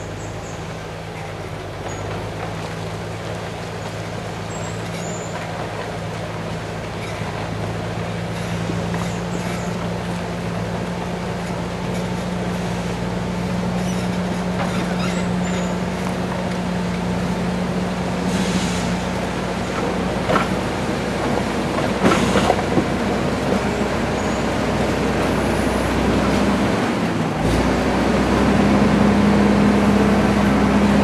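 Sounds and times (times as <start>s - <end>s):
heavy vehicle engine humming: 0.0s - 31.0s.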